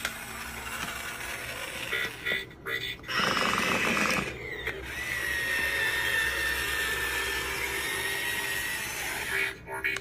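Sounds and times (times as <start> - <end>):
toy motor and gears running: 0.0 - 10.0.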